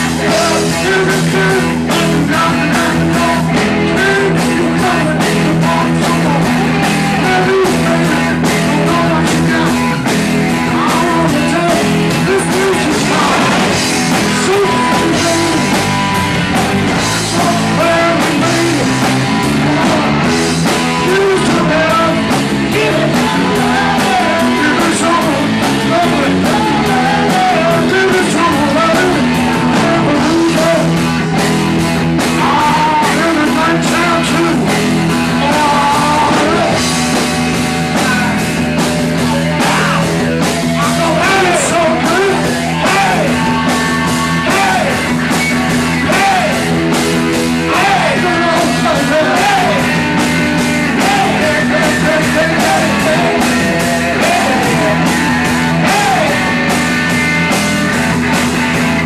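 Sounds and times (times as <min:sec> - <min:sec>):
drum kit: 0:00.0 - 0:59.0
electric guitar: 0:00.0 - 0:59.0
singer's amplified vocals: 0:00.0 - 0:59.0.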